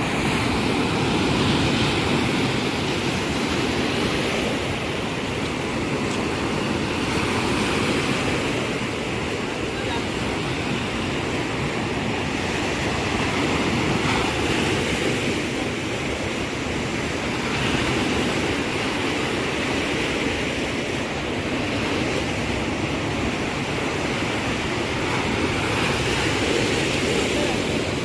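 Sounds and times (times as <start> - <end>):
surf washing up beach: 0.0 - 28.0.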